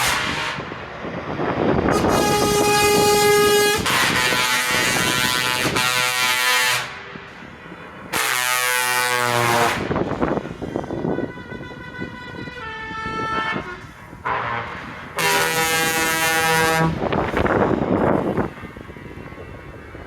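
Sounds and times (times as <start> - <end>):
truck air horns blowing: 0.0 - 0.7, 1.9 - 7.4, 8.0 - 18.6.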